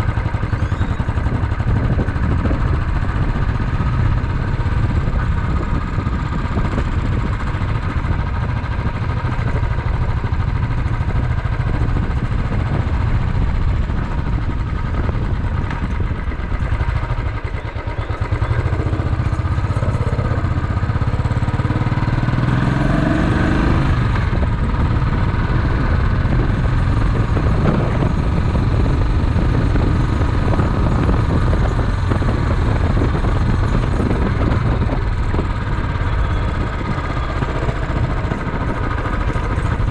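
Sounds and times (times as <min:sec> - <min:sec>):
small motorcycle engine running: 0:00.0 - 0:39.9
wind and road noise: 0:00.0 - 0:39.9.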